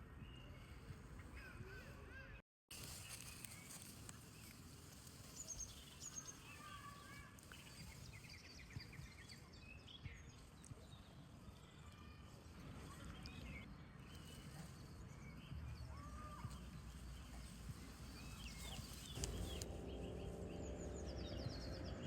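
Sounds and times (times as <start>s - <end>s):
small birds chirping: 2.8s - 22.0s.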